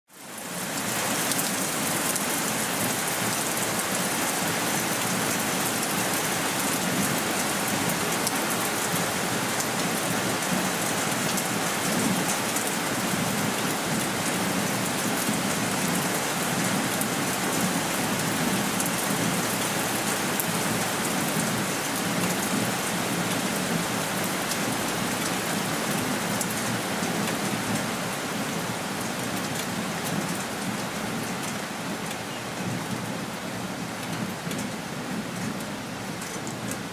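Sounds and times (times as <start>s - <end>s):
rain on wooden table and decking: 0.1s - 36.9s.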